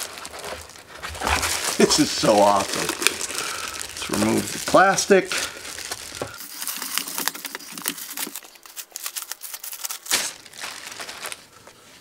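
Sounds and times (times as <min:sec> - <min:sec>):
plastic sleeve crinkling: 0:00.0 - 0:12.0.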